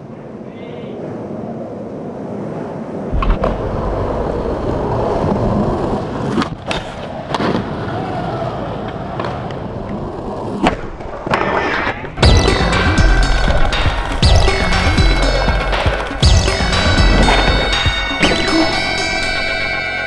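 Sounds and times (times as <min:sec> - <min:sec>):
skateboard wheels rolling on concrete: 0:00.0 - 0:20.0
skateboard clacking: 0:03.2 - 0:20.0.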